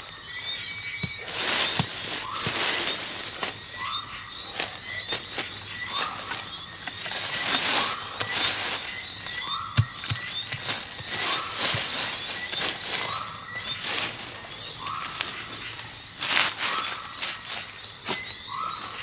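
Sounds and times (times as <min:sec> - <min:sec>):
small birds chirping: 0:00.0 - 0:19.0
wings fluttering: 0:01.0 - 0:19.0.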